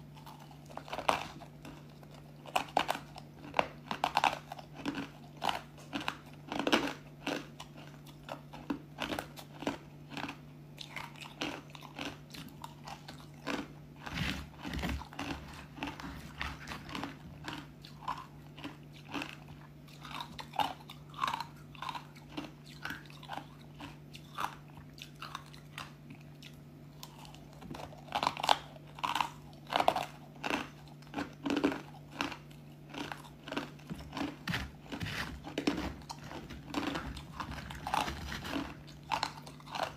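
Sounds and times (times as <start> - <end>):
chewing and crunching ice: 0.0 - 39.9.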